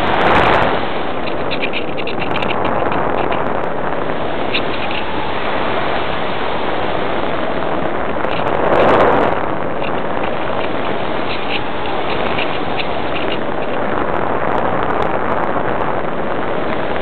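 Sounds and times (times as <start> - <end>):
wind rushing over camera: 0.0 - 17.0.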